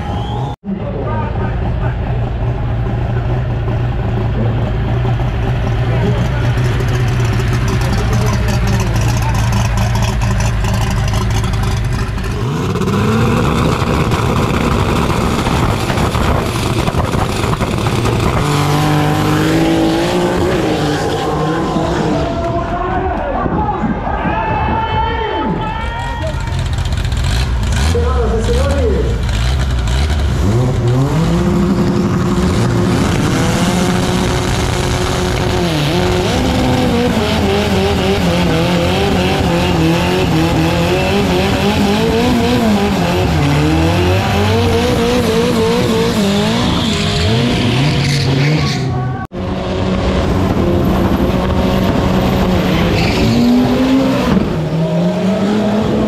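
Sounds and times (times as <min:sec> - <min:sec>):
car engine revving hard: 0:01.8 - 0:22.4, 0:26.7 - 0:56.0.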